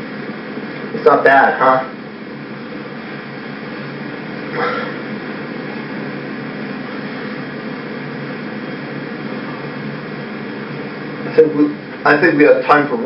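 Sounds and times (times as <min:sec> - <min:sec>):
room tone hum and hiss: 0:00.0 - 0:13.0.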